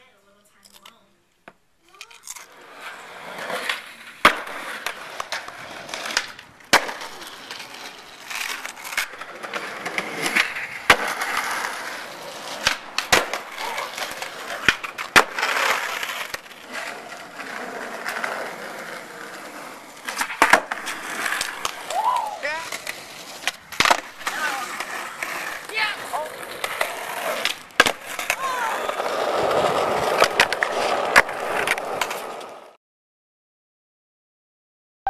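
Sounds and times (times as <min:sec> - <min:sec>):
skateboard wheels rolling on concrete: 0:00.2 - 0:32.8
skateboard clacks popping and landing: 0:03.4 - 0:32.8.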